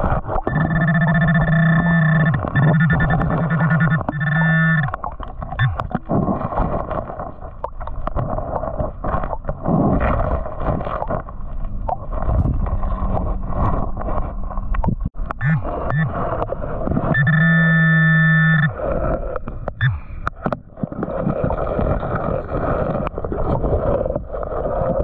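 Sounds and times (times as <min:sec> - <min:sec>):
water sloshing and gurgling: 0:00.0 - 0:25.0.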